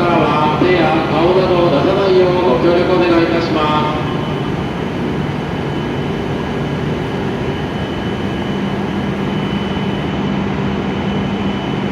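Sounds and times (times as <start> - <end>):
train hum and hiss: 0.0 - 11.9.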